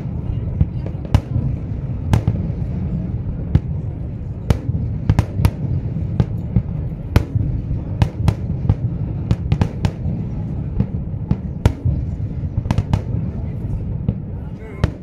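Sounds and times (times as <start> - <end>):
fireworks bangs and cracks: 0.0 - 15.0
low rumble: 0.0 - 15.0.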